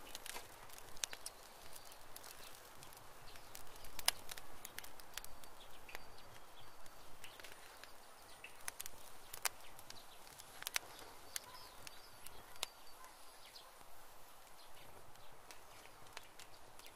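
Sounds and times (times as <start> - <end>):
clicks and scratches of soil: 0.0 - 16.9.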